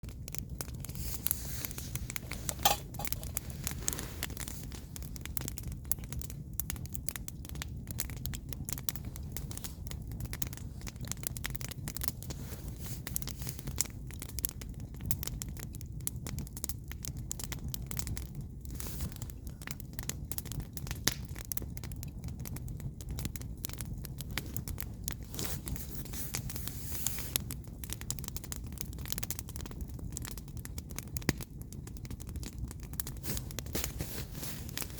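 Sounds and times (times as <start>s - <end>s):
campfire crackling: 0.0s - 34.9s
low fire rumble: 0.0s - 34.9s.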